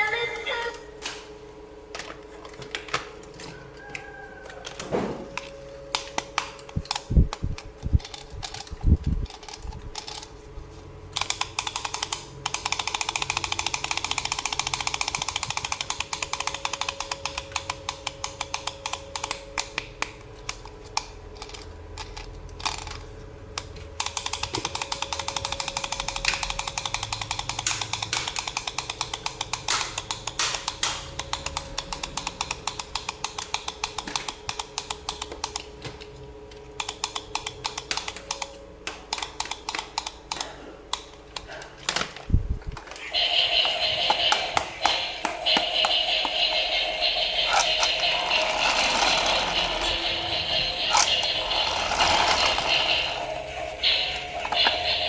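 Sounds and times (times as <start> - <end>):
toy parts clicking and rattling: 6.0 - 10.4, 11.1 - 35.7, 36.8 - 42.2, 42.8 - 55.0.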